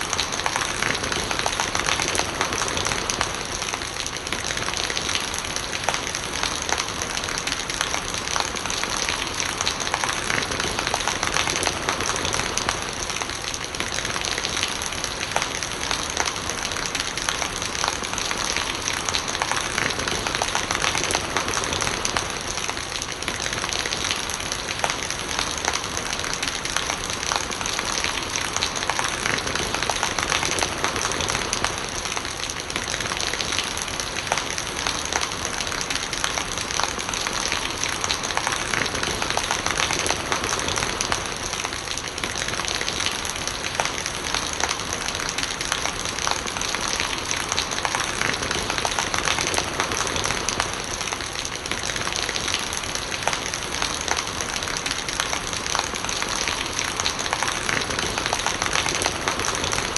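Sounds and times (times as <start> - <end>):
rainwater gurgling: 0.0 - 59.9
steady rain patter: 0.0 - 59.9.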